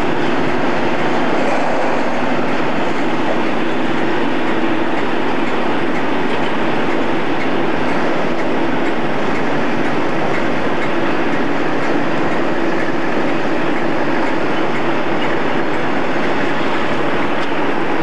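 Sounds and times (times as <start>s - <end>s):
freight wagon wheels on rails: 0.0s - 18.0s.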